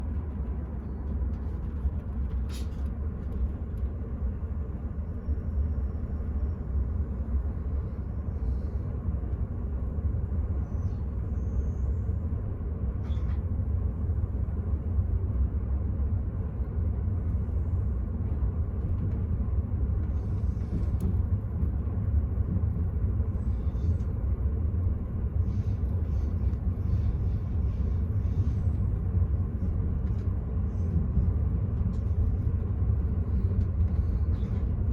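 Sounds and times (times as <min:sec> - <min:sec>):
train rumble inside carriage: 0:00.0 - 0:34.9.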